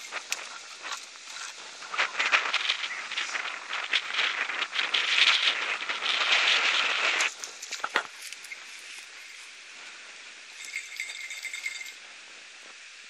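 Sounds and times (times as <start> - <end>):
crackling and rustling: 0.0 - 12.8.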